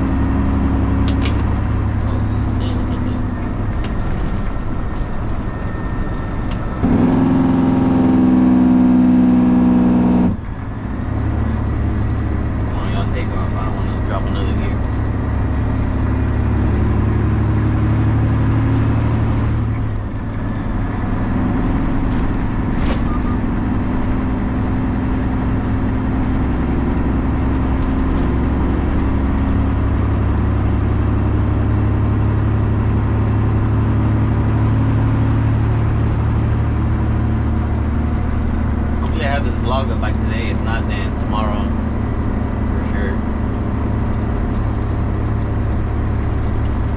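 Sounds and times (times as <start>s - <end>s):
truck diesel engine running: 0.0s - 46.9s.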